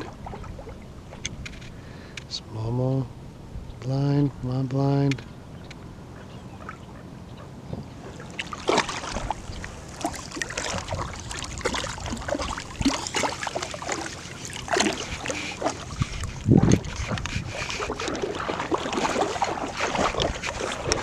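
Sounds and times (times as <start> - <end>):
water splashing and sloshing: 0.0 - 2.3, 5.0 - 21.0.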